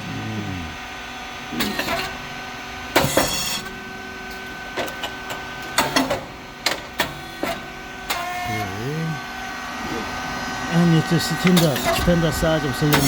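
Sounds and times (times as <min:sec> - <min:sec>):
machine humming: 0:00.0 - 0:06.6, 0:07.7 - 0:13.0.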